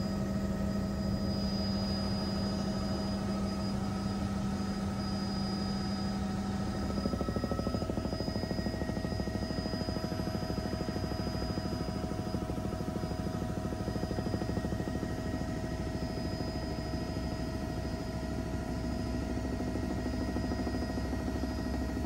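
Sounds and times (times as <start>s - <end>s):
helicopter engine whine: 0.0s - 22.0s.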